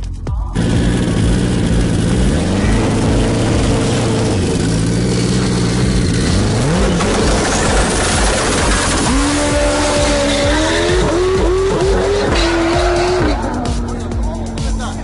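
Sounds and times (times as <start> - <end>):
motorcycle engine running hard: 0.5 - 15.0.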